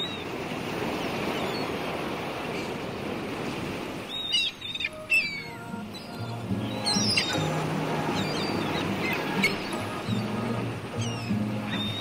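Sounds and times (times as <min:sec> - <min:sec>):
gulls calling: 0:00.0 - 0:12.0
sea waves surf: 0:00.0 - 0:12.0.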